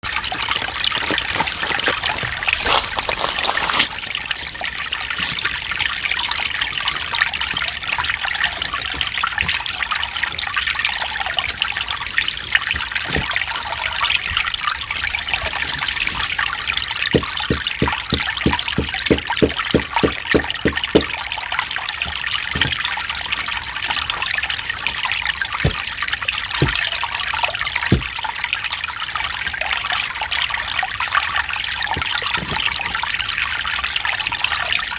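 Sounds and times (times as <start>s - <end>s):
stream running over stones: 0.0s - 34.9s.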